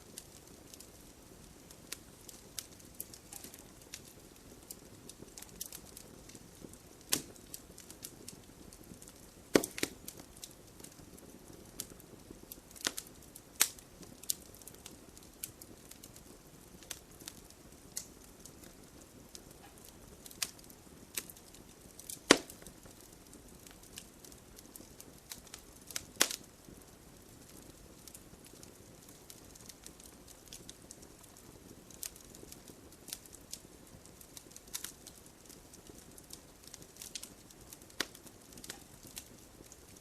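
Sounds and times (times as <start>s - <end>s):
logs crackling and popping: 0.0s - 40.0s.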